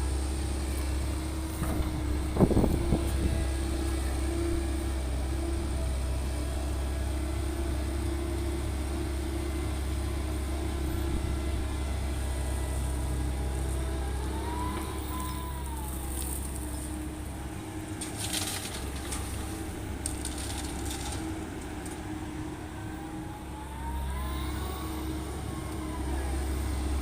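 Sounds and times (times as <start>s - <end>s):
engine whine: 0.0s - 27.0s
excavator diesel engine running: 0.0s - 27.0s.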